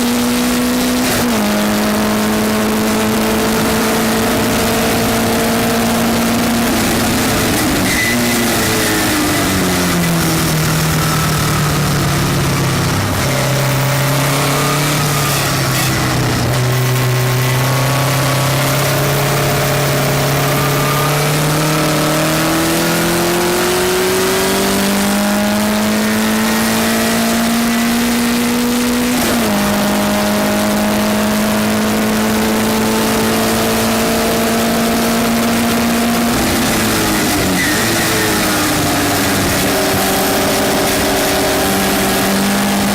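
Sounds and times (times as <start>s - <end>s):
race car engine accelerating: 0.0s - 42.9s
wind and road noise: 0.0s - 42.9s.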